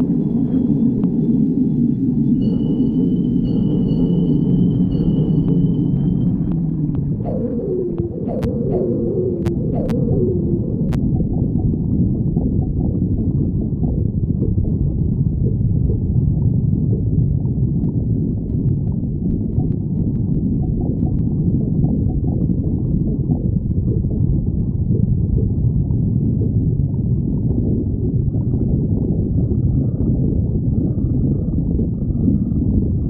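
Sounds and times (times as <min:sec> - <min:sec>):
stomach growling and gurgling: 0:00.0 - 0:33.0.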